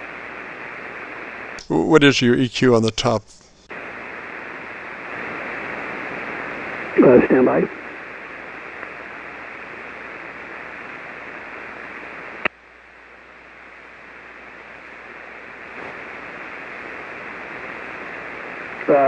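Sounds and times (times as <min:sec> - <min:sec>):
radio receiver static hiss: 0:00.0 - 0:19.0.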